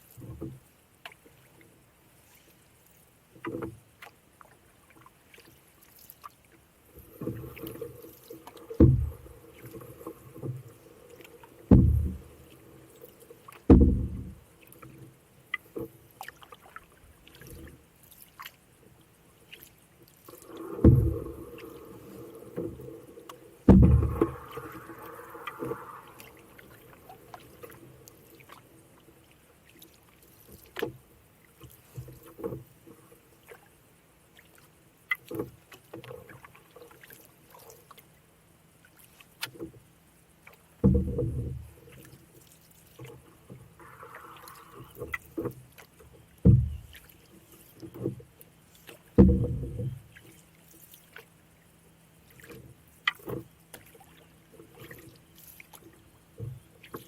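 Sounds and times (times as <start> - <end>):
paddle strokes through water: 0.0 - 57.0.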